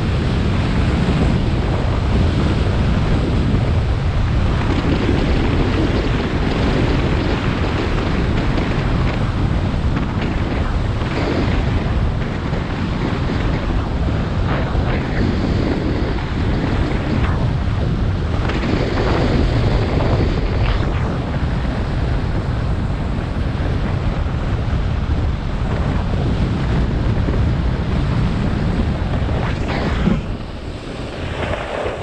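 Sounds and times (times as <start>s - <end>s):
snowboard sliding over snow: 0.0s - 32.0s
wind buffeting microphone: 0.0s - 32.0s.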